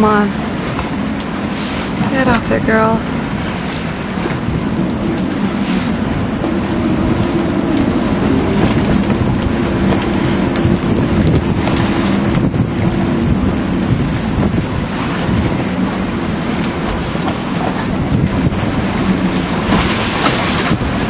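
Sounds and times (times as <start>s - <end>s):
boat engine running: 0.0s - 21.0s
wind buffeting microphone: 0.0s - 21.0s.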